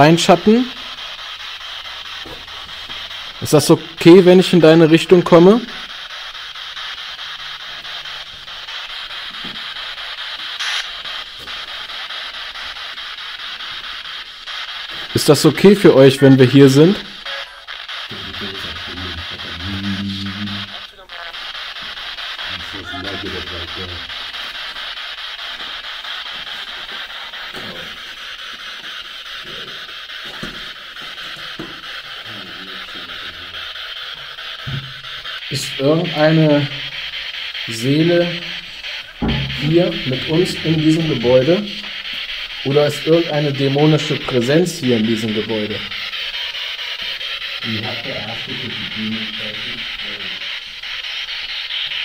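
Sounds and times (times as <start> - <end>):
radio static chopped rhythmically: 0.0 - 52.0.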